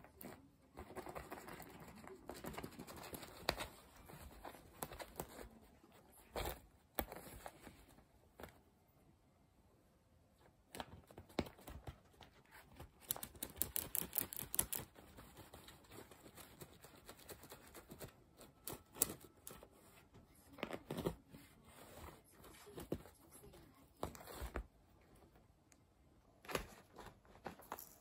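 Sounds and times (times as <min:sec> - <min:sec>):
cat scratching fabric cushion: 0:00.0 - 0:08.6, 0:10.7 - 0:25.3.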